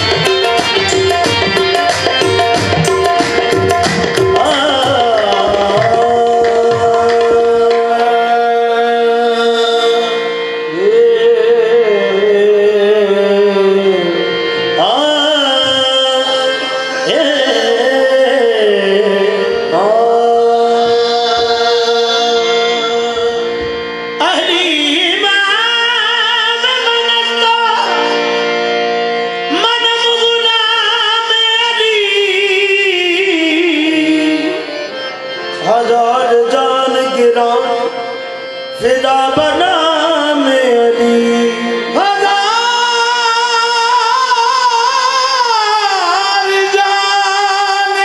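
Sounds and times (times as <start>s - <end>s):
harmoniums holding steady notes: 0.0s - 48.0s
tabla: 0.0s - 48.0s.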